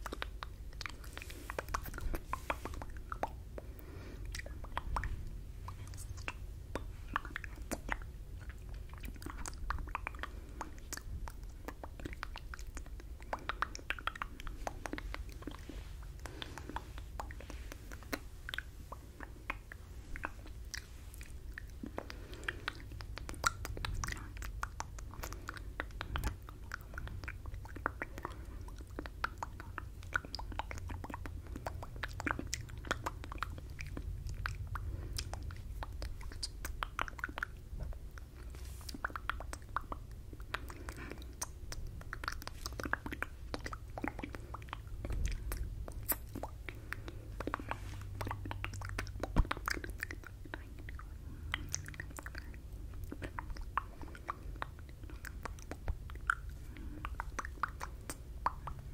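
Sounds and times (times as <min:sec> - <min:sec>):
faint low hum: 0:00.0 - 0:58.9
wet lip smacks and tongue clicks: 0:00.0 - 0:58.9.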